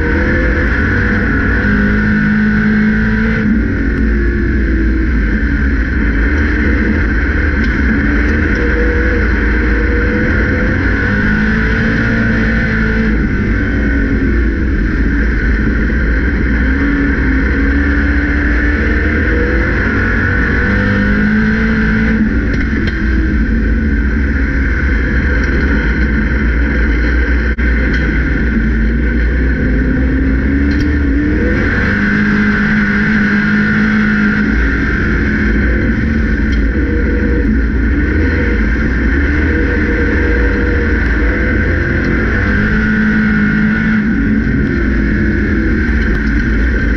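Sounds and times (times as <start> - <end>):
race car engine running hard: 0.0 - 46.9.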